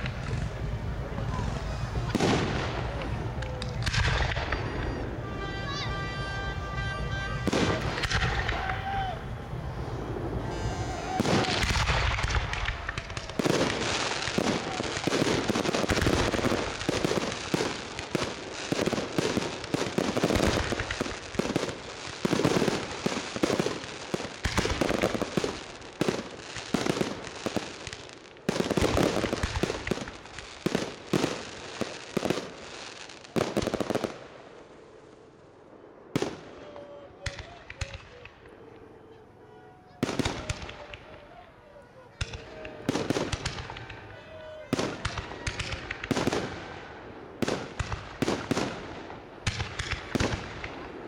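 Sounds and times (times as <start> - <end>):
fireworks bursts and crackling bangs: 0.0 - 51.0.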